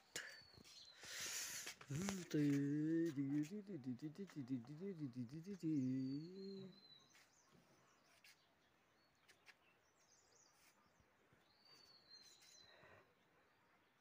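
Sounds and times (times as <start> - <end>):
birds chirping softly: 0.0 - 14.0.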